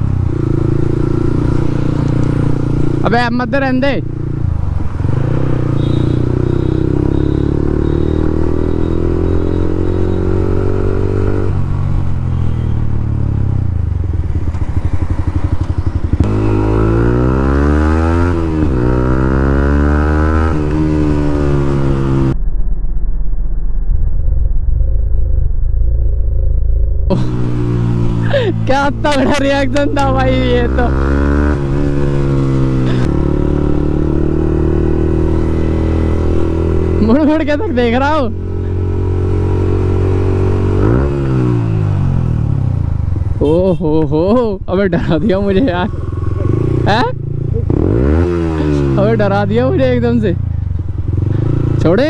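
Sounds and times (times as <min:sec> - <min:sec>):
motorcycle engine revving: 0:00.0 - 0:22.4, 0:26.9 - 0:52.0.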